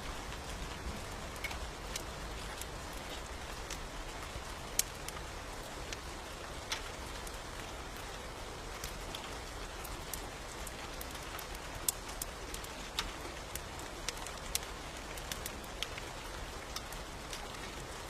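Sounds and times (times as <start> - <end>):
raindrop ticks: 0.0 - 18.0
steady rain: 0.0 - 18.0.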